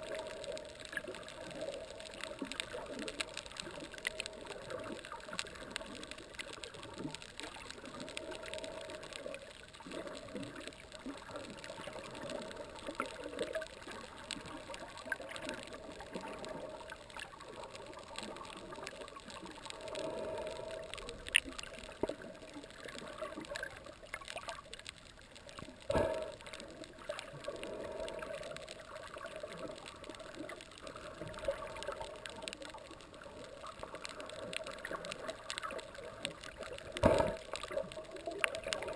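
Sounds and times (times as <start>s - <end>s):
dense crackle of tiny clicks: 0.0s - 38.9s.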